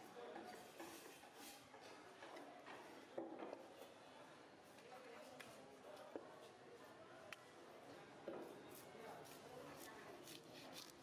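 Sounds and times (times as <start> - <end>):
faint background murmur: 0.0 - 11.0.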